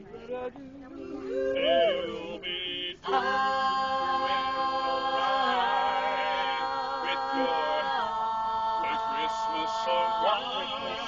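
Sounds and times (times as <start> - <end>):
vocal quartet singing a cappella: 1.0 - 11.0.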